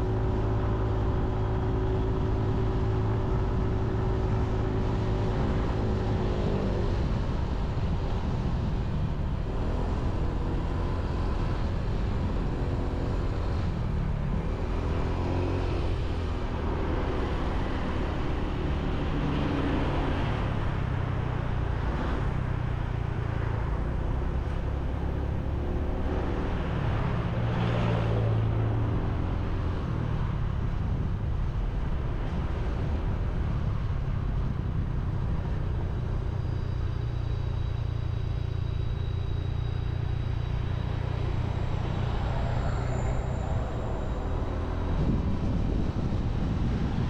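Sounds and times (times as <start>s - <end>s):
road and wind noise: 0.0s - 47.0s
surrounding traffic: 0.0s - 47.0s.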